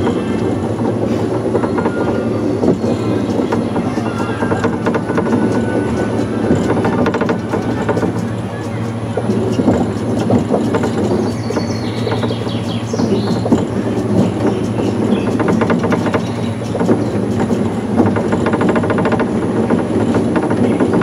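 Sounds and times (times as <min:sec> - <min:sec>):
monorail drive humming: 0:00.0 - 0:21.0
wheels rattling on rail: 0:00.0 - 0:21.0.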